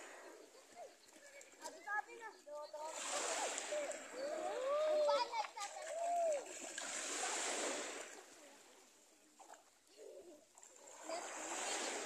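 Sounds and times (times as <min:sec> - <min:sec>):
sea water splashing at shoreline: 0:00.0 - 0:12.0.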